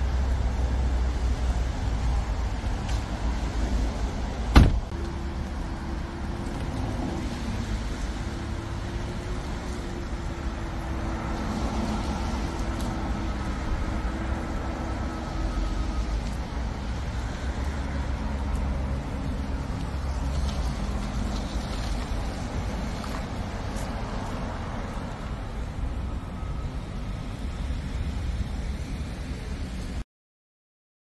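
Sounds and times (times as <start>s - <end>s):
car tyre noise rolling slowly: 0.0s - 30.0s.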